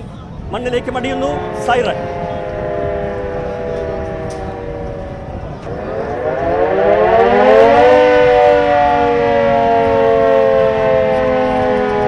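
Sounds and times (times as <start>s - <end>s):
warning siren wailing: 0.0s - 12.0s.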